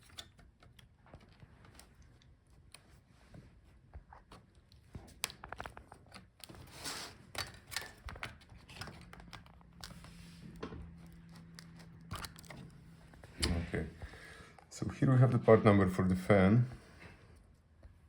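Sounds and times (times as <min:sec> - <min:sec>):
scraping and crinkling: 0:00.0 - 0:14.7.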